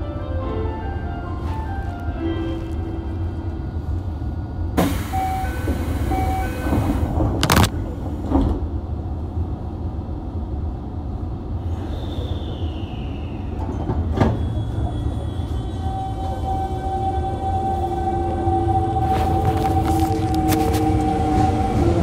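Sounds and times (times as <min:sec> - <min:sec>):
train car low hum: 0:00.0 - 0:22.0.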